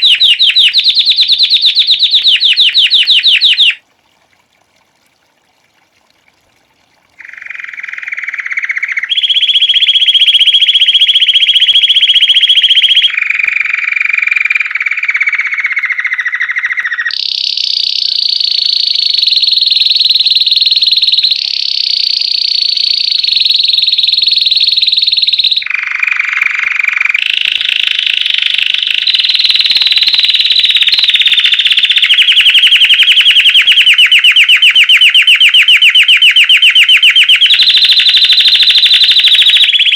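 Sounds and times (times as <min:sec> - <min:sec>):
canary singing trills: 0:00.0 - 0:03.8, 0:07.2 - 0:39.9.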